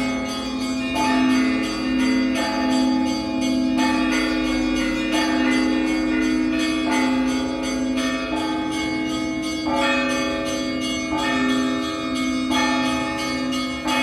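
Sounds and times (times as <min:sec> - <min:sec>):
deep church bell humming: 0:00.0 - 0:14.0
smaller bells struck together: 0:00.0 - 0:14.0.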